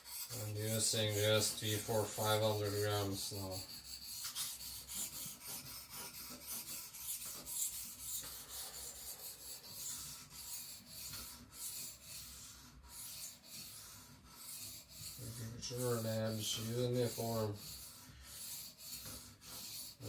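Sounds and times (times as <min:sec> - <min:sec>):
knife scraping on whetstone: 0:00.0 - 0:20.0.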